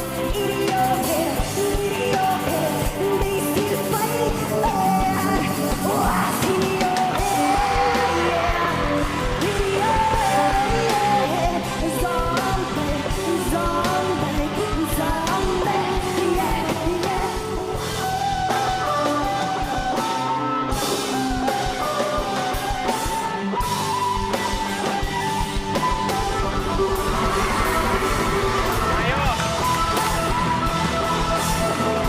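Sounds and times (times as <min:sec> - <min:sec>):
woman singing: 0:00.0 - 0:28.8
distorted electric guitar: 0:00.0 - 0:32.0
drum kit: 0:00.0 - 0:32.0.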